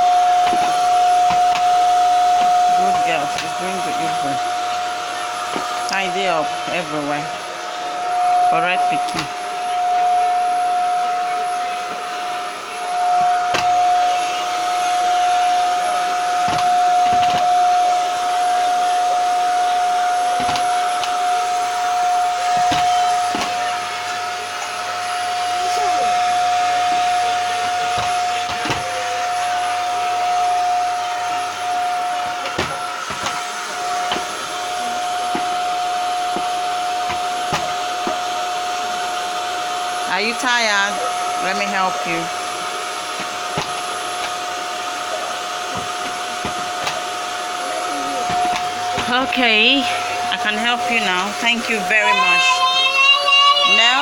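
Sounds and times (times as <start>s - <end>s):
vacuum cleaner knocking: 0.0s - 54.0s
vacuum cleaner running: 0.0s - 54.0s.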